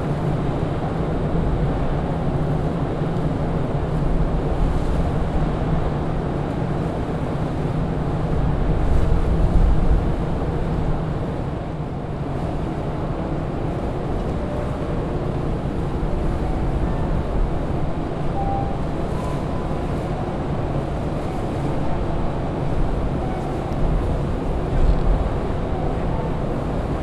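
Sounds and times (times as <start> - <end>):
ship machinery rumbling: 0.0 - 27.0
wind buffeting microphone: 0.0 - 27.0.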